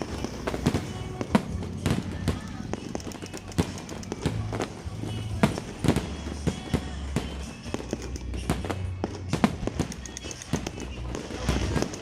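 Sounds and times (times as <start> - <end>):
continuous low rumble: 0.0 - 12.0
fireworks bangs: 0.0 - 12.0.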